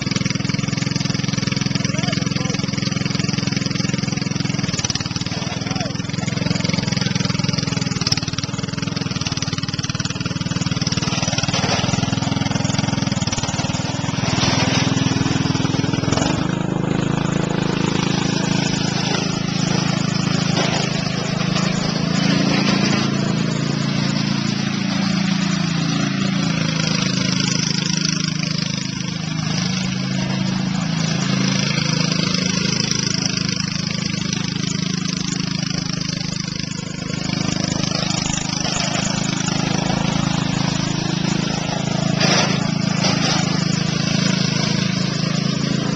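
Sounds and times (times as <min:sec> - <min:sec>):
lawn mower engine running rough: 0:00.0 - 0:45.9.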